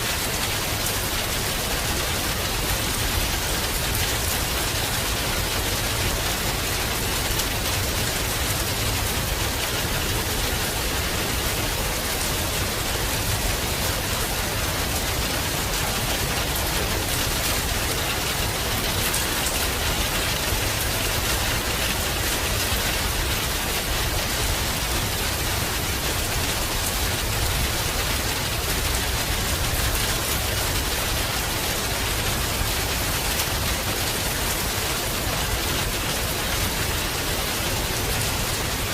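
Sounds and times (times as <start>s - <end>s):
heavy rain on ground and leaves: 0.0s - 38.9s.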